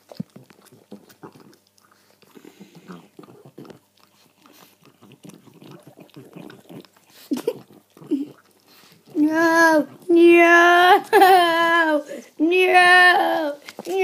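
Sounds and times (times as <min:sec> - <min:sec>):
dog chewing and licking: 0:00.0 - 0:11.2.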